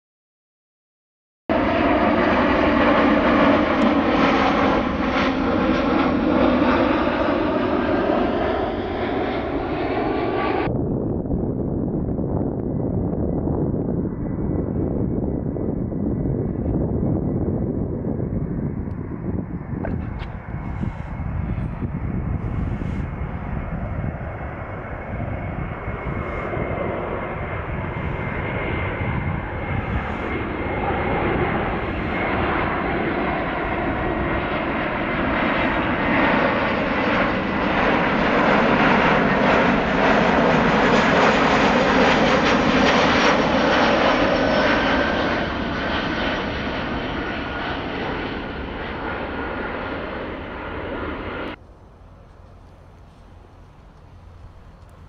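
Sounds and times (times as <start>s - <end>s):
jet airliner passing overhead: 1.5s - 55.0s
thin jet engine whine: 1.5s - 55.0s.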